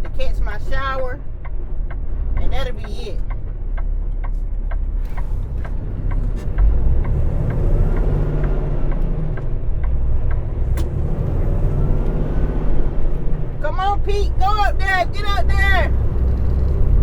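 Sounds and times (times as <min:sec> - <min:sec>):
truck engine rumbling: 0:00.0 - 0:17.0
turn signal ticking: 0:00.0 - 0:17.0.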